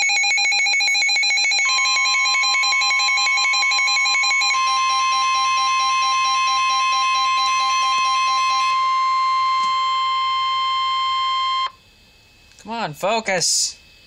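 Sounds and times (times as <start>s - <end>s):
fast alternating beeping alarm: 0.0s - 12.1s
steady warning alarm tone: 0.0s - 14.0s.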